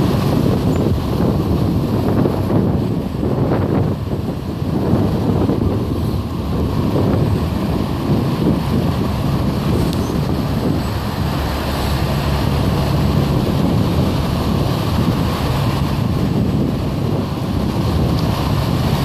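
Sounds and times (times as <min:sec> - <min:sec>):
passing vehicle engine hum: 0:00.0 - 0:19.0
wind buffeting microphone: 0:00.0 - 0:19.0.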